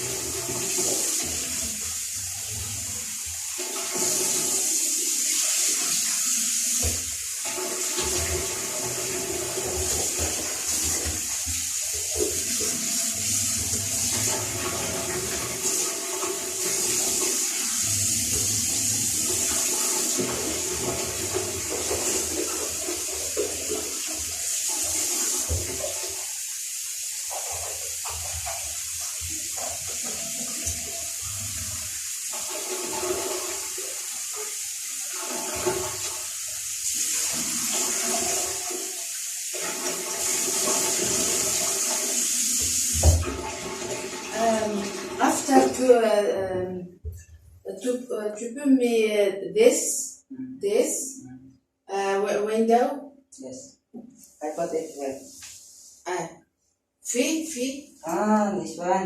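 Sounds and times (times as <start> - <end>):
water running and splashing: 0.0 - 46.4, 54.2 - 56.2.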